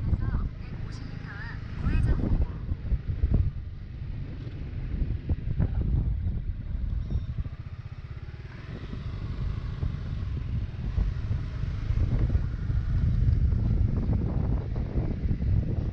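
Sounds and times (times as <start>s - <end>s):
scooter engine running: 0.0s - 15.9s.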